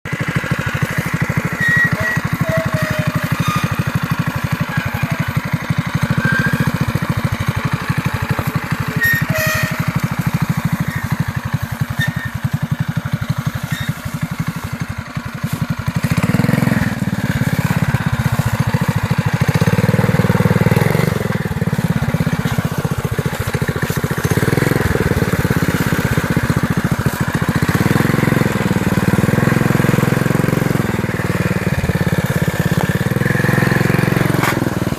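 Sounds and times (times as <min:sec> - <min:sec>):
mini bike engine revving: 0:00.1 - 0:34.9.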